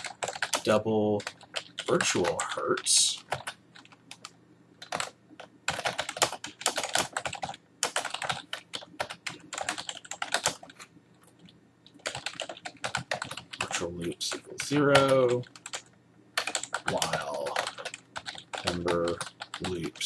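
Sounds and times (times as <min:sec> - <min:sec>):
typing on computer keyboard: 0:00.0 - 0:10.8, 0:11.9 - 0:20.0.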